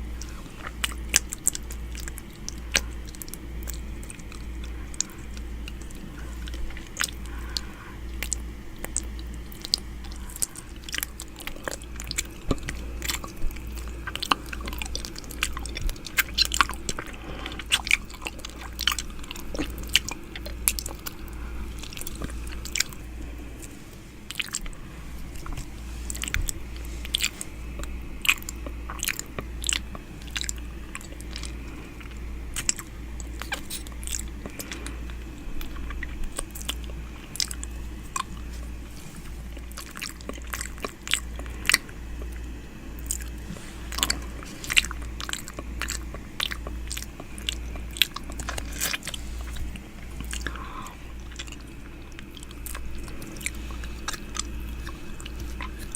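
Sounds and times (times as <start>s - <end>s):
mouth clicks and smacks: 0.2s - 55.9s.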